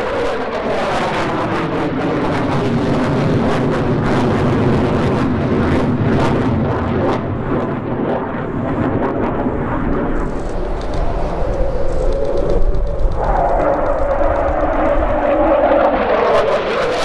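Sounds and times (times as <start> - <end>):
jet fighter flying past: 0.0 - 17.0.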